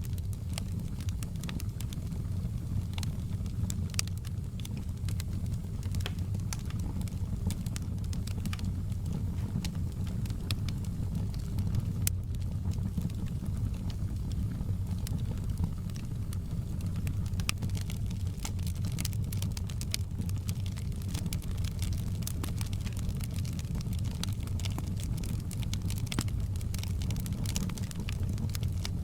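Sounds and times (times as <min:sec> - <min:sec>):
burning wood crackling and popping: 0:00.0 - 0:29.0
campfire low rumble: 0:00.0 - 0:29.0.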